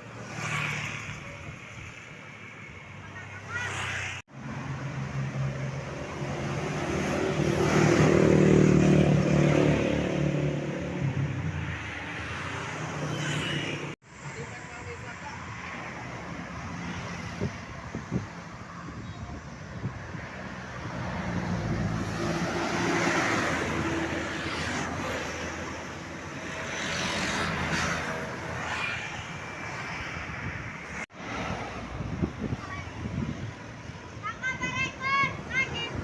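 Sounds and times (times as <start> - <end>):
road traffic engine and tyre noise: 0.0 - 36.0.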